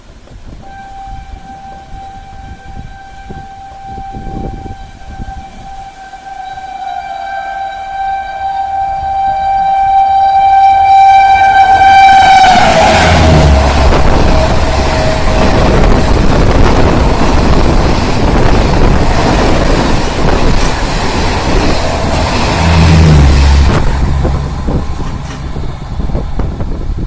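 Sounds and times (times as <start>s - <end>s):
locomotive horn blast: 0.6s - 26.8s
train coaches rushing past: 0.7s - 27.0s.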